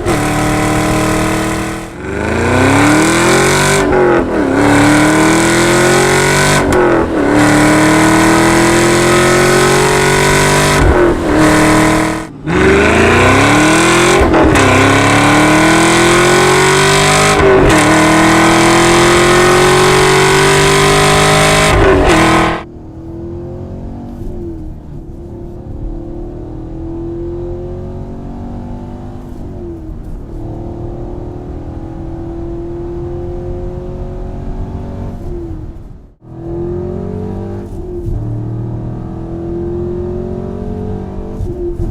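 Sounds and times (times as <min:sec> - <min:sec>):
car engine accelerating hard: 0:00.0 - 0:41.9.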